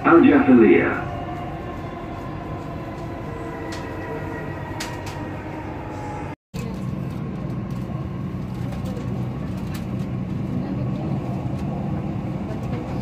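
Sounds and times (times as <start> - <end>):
train rumble and hiss: 0.0 - 13.0.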